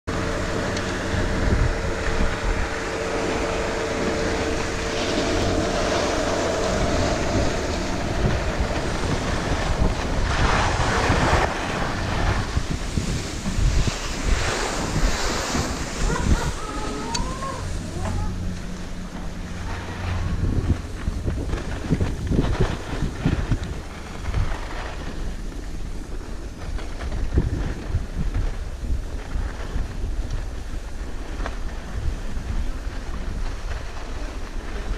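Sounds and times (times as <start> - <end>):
wind buffeting microphone: 0.0 - 34.9
skis scraping over snow: 0.1 - 34.9.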